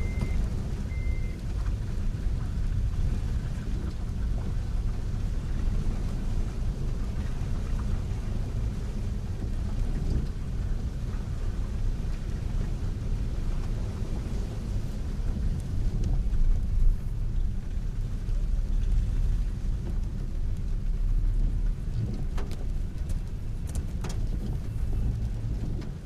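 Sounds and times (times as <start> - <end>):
vehicles on flooded street: 0.0 - 26.0.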